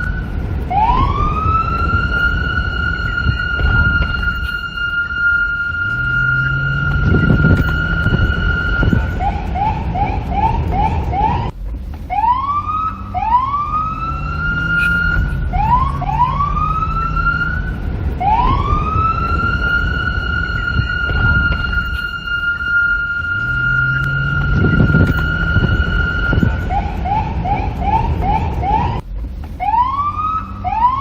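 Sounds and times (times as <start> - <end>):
police siren: 0.0 - 11.5, 12.1 - 29.0, 29.6 - 31.0
low rumble: 0.0 - 30.9.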